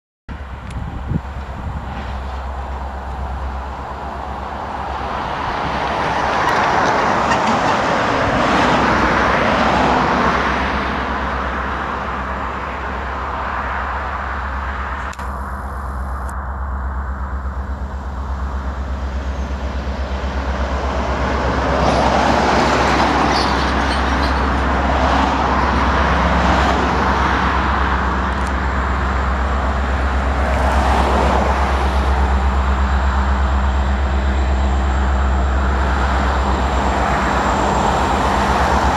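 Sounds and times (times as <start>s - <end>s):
freight train diesel rumble: 0.3s - 38.9s
road traffic passing: 0.3s - 38.9s.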